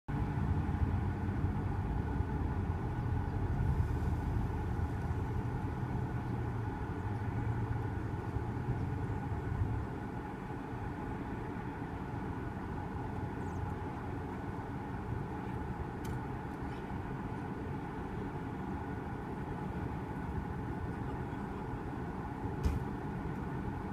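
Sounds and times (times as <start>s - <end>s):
engine low rumble: 0.1s - 23.9s.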